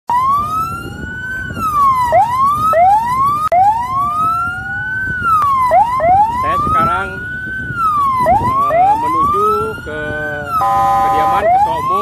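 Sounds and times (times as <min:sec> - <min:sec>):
electronic vehicle siren wailing: 0:00.1 - 0:12.0
lower siren tone: 0:00.1 - 0:12.0
road and engine noise: 0:00.1 - 0:12.0.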